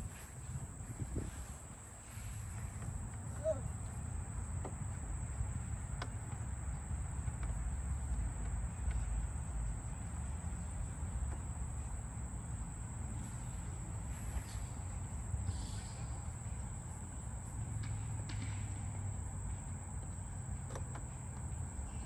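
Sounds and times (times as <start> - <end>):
high-pitched insect chorus: 0.0 - 6.5, 7.3 - 22.0
constant low rumble: 0.0 - 22.0.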